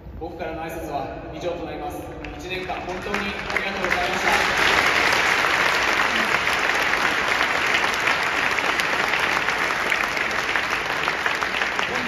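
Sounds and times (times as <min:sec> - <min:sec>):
stadium crowd applauding: 0:02.2 - 0:12.0.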